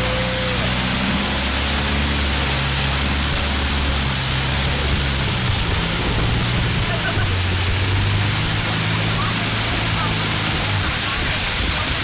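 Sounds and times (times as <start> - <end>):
motorboat engine drone: 0.0 - 12.0
wind and water rushing: 0.0 - 12.0.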